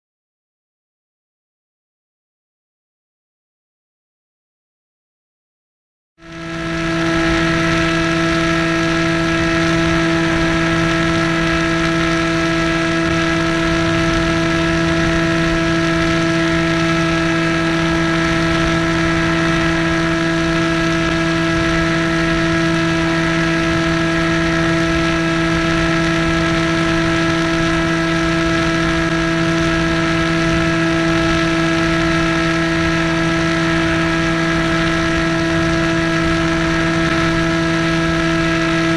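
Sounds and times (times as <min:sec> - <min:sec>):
model plane motor buzzing: 0:06.3 - 0:38.9.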